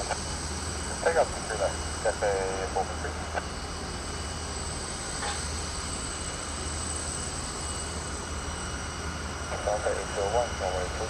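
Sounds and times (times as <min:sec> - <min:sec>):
jet engine whine and rumble: 0:00.0 - 0:11.0.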